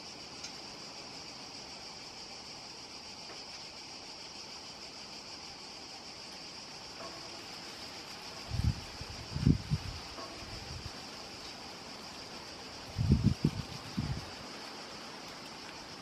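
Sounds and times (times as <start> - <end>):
constant high-pitched tone: 0.0 - 16.0
outdoor background hiss: 0.0 - 16.0.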